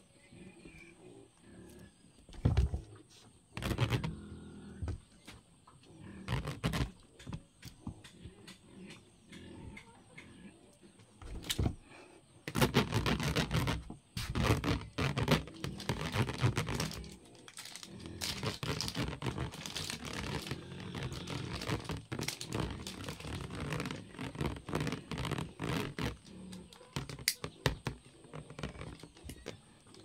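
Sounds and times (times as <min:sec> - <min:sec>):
scratching and scraping noises: 0:00.0 - 0:30.0.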